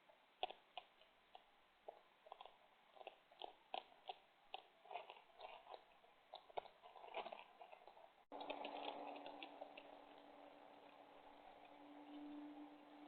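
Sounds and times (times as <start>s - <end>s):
animals crunching and chewing: 0.0s - 13.0s.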